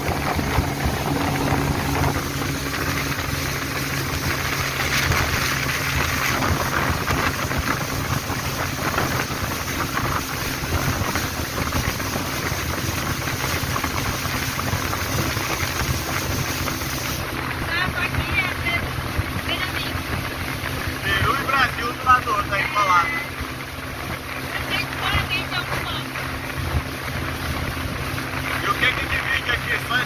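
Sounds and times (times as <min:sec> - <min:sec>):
boat engine droning: 0:00.0 - 0:30.0
wind buffeting microphone: 0:00.0 - 0:30.0.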